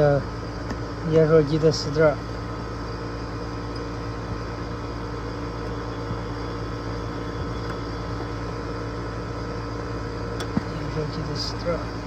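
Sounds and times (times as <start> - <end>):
air conditioning machine hum: 0.0 - 12.0.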